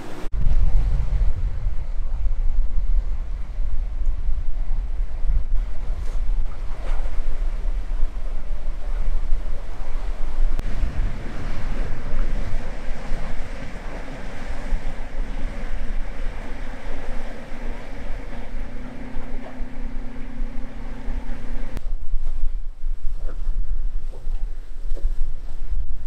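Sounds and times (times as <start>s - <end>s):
outboard motor droning: 0.0s - 1.2s, 2.0s - 21.8s
breaking surf: 0.0s - 21.8s
wind buffeting microphone: 0.0s - 26.0s.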